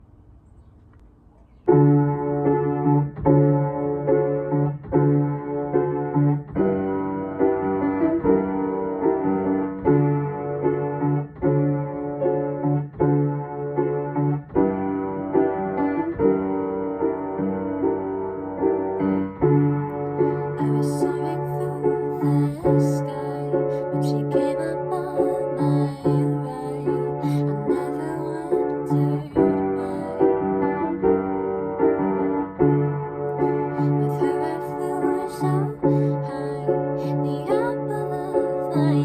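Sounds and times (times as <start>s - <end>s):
piano chords: 0.0s - 39.0s.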